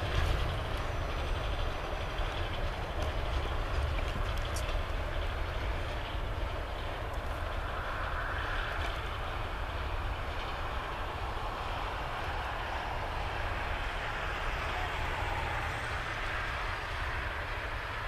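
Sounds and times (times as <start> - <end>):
distant freight train rumble: 0.0 - 18.0
wheels hissing on rail: 0.0 - 18.0.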